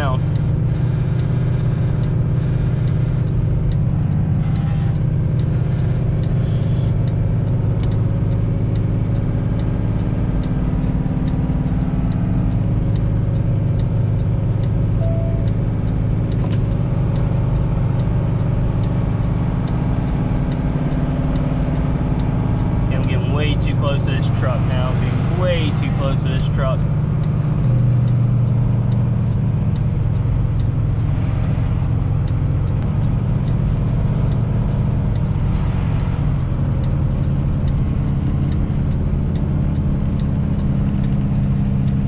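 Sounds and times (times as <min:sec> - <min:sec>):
diesel truck engine braking: 0:00.0 - 0:42.0.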